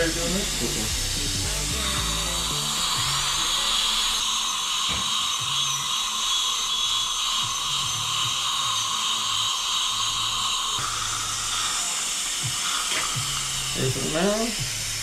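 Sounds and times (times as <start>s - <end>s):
dental drill whining: 0.0s - 15.0s
steady hiss: 0.0s - 15.0s.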